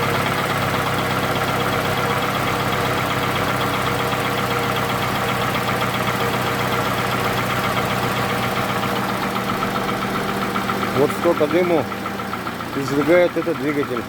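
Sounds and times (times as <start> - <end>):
car engine idling with knocking: 0.0 - 14.0.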